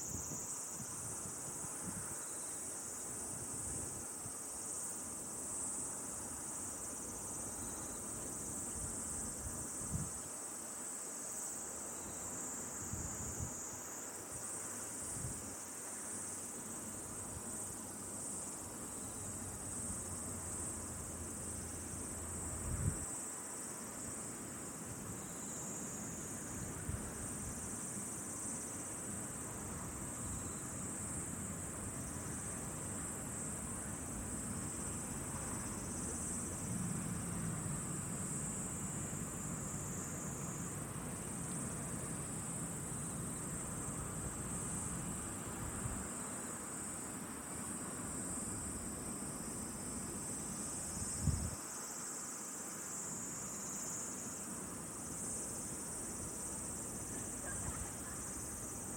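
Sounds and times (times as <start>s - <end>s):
insects trilling chorus: 0.0s - 58.9s.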